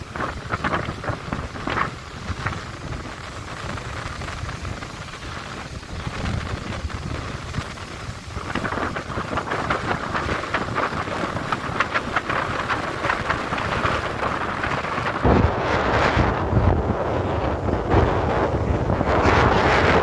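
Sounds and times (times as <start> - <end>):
surf washing up a beach: 0.0 - 20.0
wind buffeting microphone: 0.0 - 20.0.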